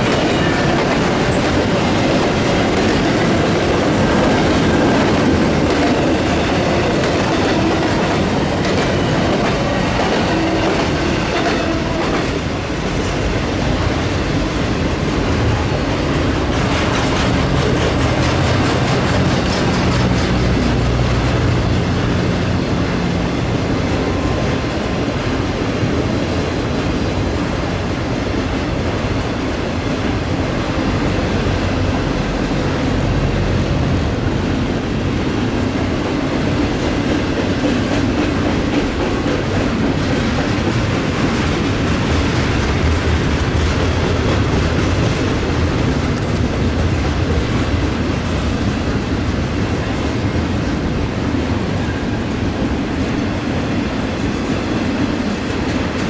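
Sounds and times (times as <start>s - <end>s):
freight train wheels rattling: 0.0s - 56.0s.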